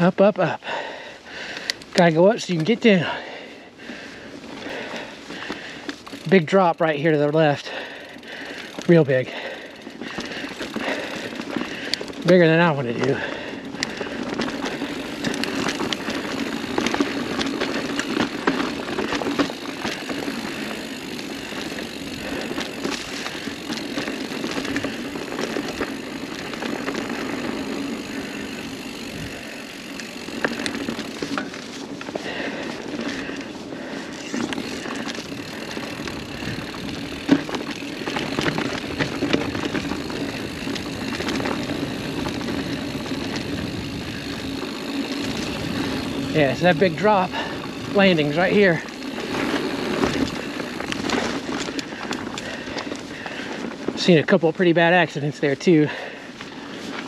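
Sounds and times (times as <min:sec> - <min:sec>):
bike clicks and rattles: 0:00.0 - 0:57.0
bike tyres rumbling on dirt: 0:00.0 - 0:57.0.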